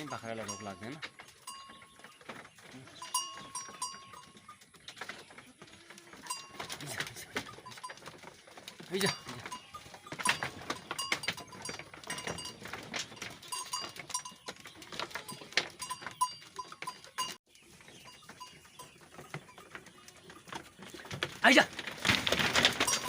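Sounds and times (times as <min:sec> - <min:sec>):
goat bells clinking: 0:00.0 - 0:23.0.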